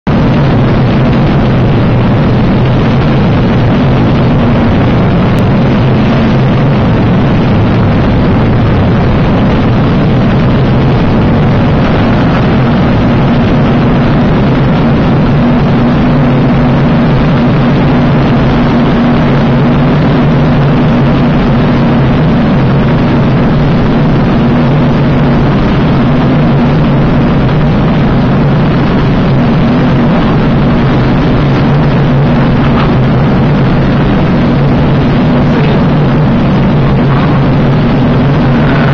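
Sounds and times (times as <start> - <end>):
aircraft engine drone: 0.0 - 38.9
airflow rushing: 0.0 - 38.9.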